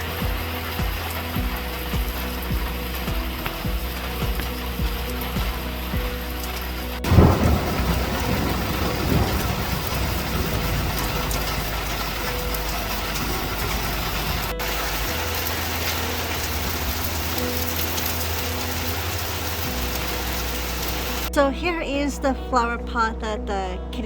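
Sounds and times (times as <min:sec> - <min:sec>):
thunder rumble: 0:00.0 - 0:21.3
steady rain: 0:00.0 - 0:21.4.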